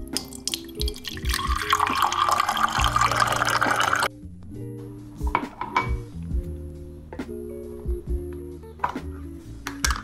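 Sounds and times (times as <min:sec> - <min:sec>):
background music slow beat: 0:00.0 - 0:10.0.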